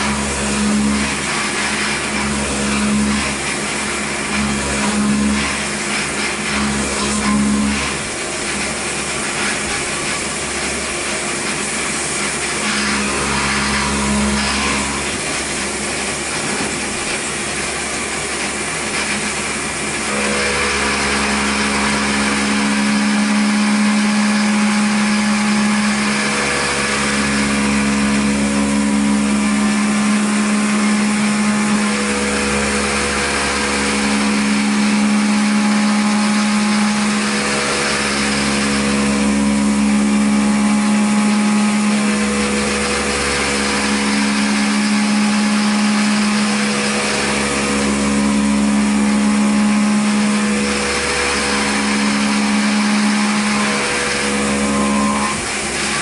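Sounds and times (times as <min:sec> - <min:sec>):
milling machine cutting whine: 0:00.0 - 0:56.0.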